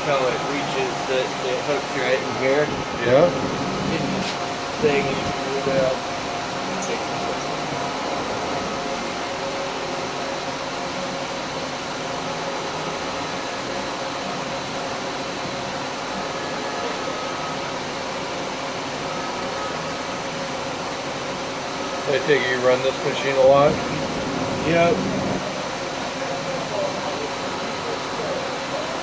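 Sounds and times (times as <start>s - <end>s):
machine hum: 0.0s - 29.0s
steady whining tones: 0.0s - 29.0s.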